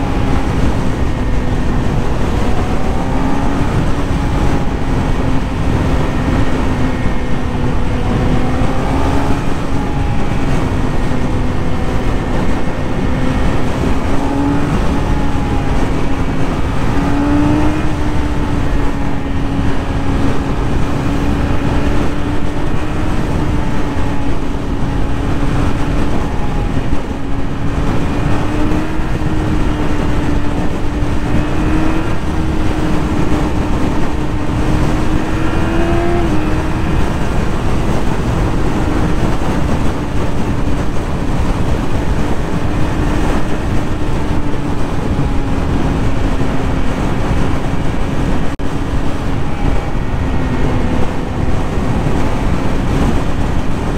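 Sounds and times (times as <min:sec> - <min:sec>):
motorcycle engine cruising: 0:00.0 - 0:53.9
wind rush over microphone: 0:00.0 - 0:53.9.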